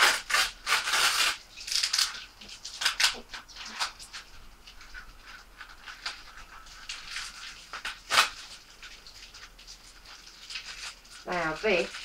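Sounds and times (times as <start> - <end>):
wrapping rustling and tearing: 0.0 - 12.0.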